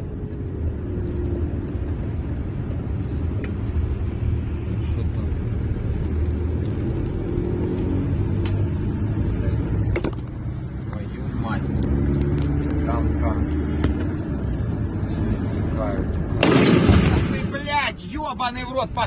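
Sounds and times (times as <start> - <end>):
car engine and tyre drone: 0.0 - 16.4.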